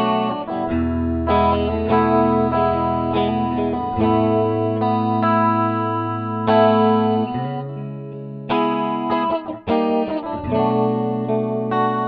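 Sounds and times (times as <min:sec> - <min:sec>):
clean electric guitar chords: 0:00.0 - 0:12.0.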